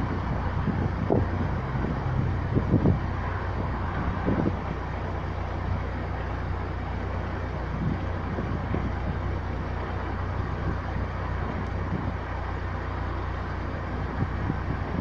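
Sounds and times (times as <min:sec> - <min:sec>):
air conditioning rushing: 0:00.0 - 0:15.0
car engine idling: 0:00.0 - 0:15.0.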